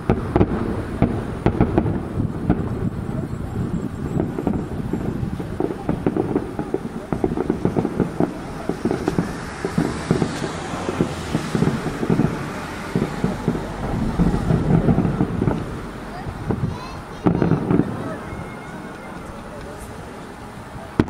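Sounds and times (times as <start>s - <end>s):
distant fireworks booming: 0.0s - 21.0s
wind on microphone: 0.0s - 21.0s.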